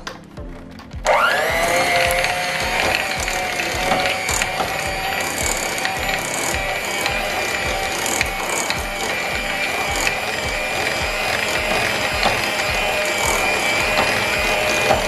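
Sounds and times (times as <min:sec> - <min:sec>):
electric hand mixer whining: 0:01.0 - 0:15.0.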